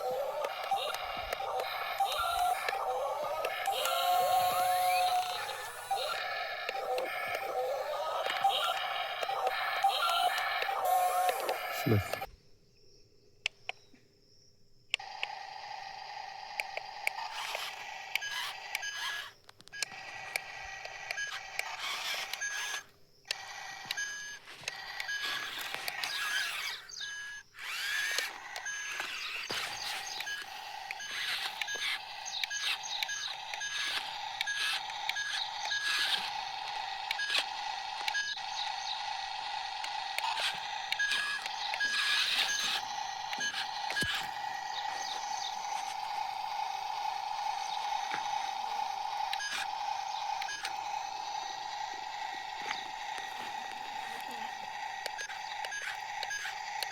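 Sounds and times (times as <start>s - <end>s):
clicks: 0.0s - 12.3s, 16.6s - 56.9s
small electric motor whirring: 0.0s - 12.3s, 15.0s - 56.9s.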